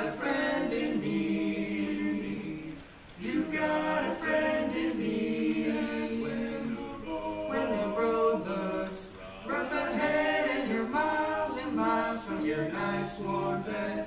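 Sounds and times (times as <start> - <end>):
men singing a cappella: 0.0 - 14.0.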